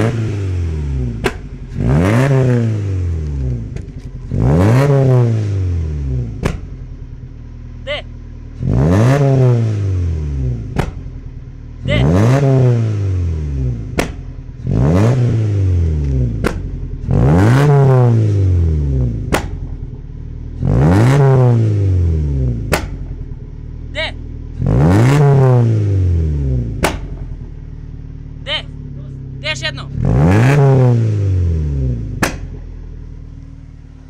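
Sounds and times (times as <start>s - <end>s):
exhaust backfire pops: 0.0s - 7.5s, 8.6s - 11.6s, 12.3s - 23.7s, 24.5s - 28.0s, 30.0s - 34.0s
car engine revving: 0.0s - 34.0s.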